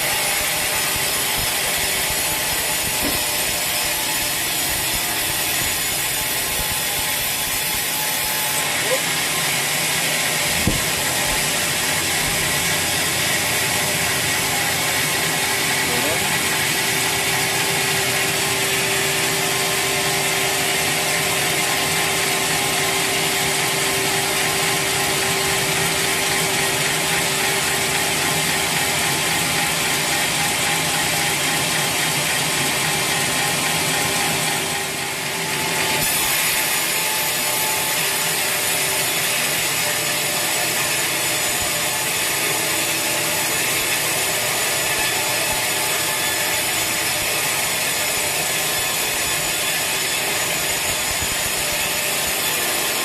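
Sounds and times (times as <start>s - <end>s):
saw cutting through log: 0.0s - 53.0s.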